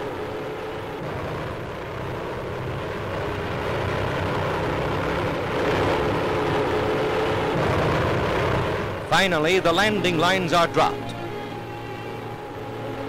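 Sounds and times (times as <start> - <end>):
airship propeller engines droning: 0.0 - 13.0.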